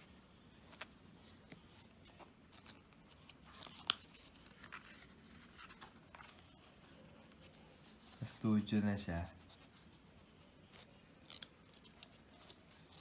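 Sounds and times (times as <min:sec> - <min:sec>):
book pages turning: 0:00.0 - 0:13.0.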